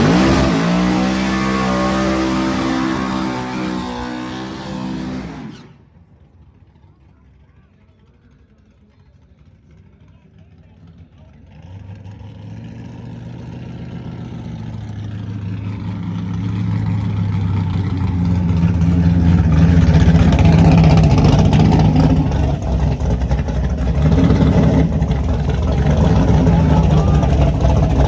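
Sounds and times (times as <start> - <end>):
car engine: 0.0 - 28.0.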